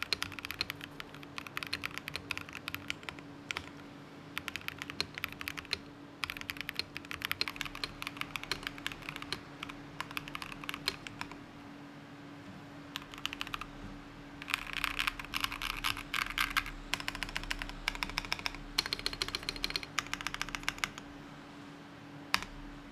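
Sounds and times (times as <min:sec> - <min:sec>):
mechanical keyboard typing: 0:00.0 - 0:11.4, 0:12.9 - 0:13.7, 0:14.4 - 0:21.1, 0:22.3 - 0:22.6.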